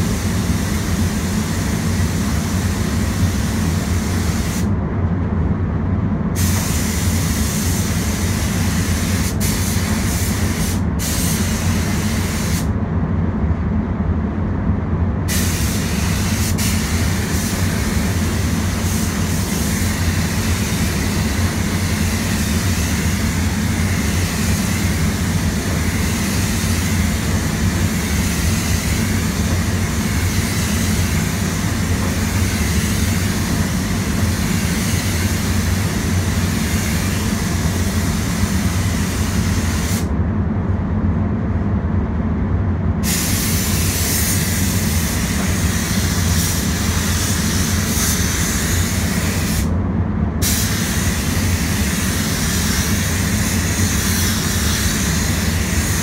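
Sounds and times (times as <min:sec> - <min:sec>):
spray gun hissing: 0:00.0 - 0:04.7, 0:06.4 - 0:12.7, 0:15.3 - 0:40.1, 0:43.0 - 0:49.7, 0:50.4 - 0:56.0
fans humming: 0:00.0 - 0:56.0.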